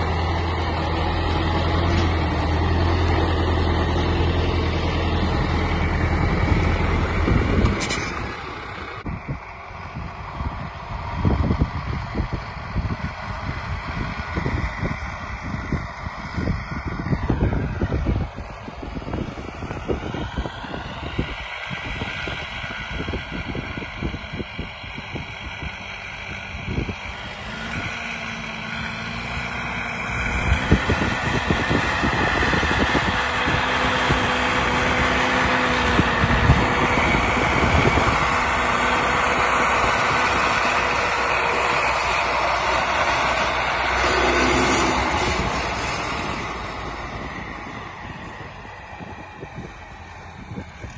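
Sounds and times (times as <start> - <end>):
truck diesel engine driving: 0.0 - 50.9.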